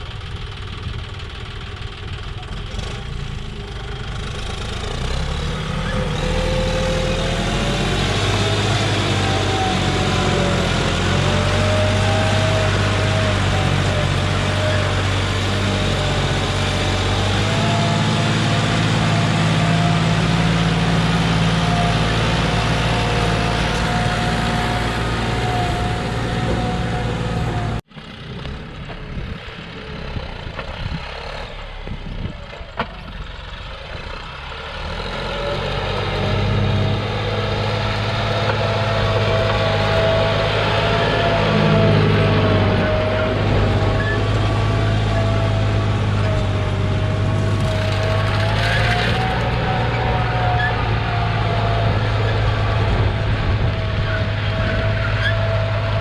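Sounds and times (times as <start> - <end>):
tractor diesel engine running hard: 0.0 - 56.0.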